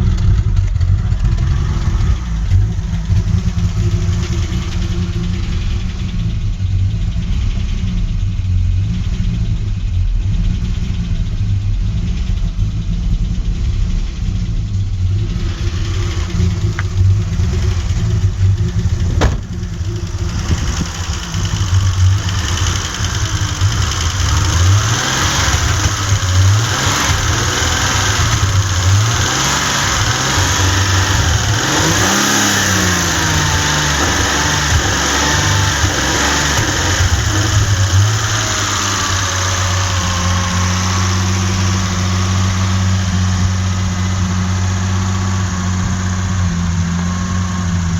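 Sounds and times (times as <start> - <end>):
car engine misfiring: 0.0 - 47.9.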